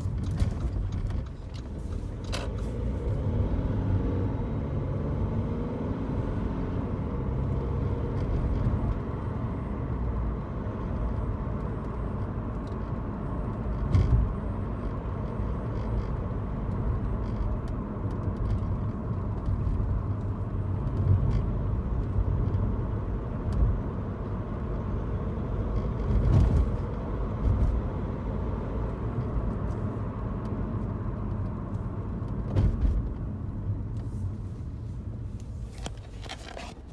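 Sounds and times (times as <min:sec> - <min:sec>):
car cabin road and engine rumble: 0:00.0 - 0:36.9.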